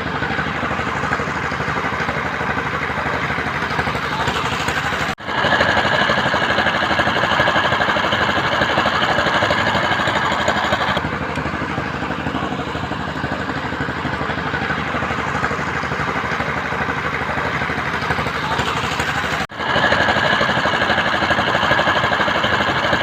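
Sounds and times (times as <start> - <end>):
machinery engine chugging: 0.0 - 23.0.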